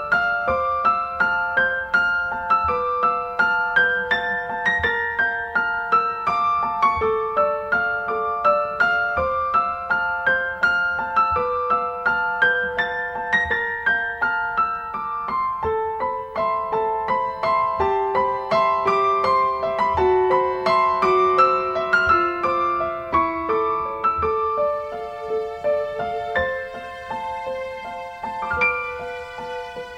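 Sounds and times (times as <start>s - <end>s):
gentle piano music: 0.0s - 29.9s.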